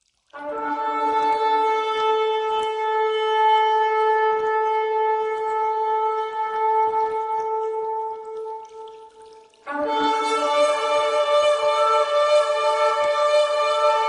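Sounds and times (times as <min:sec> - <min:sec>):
long steady horn-like note: 0:00.4 - 0:14.0.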